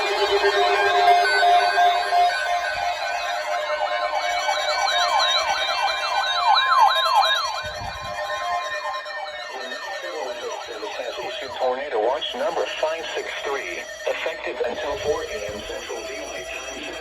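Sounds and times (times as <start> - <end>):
electronic sirens wailing: 0.0 - 17.0.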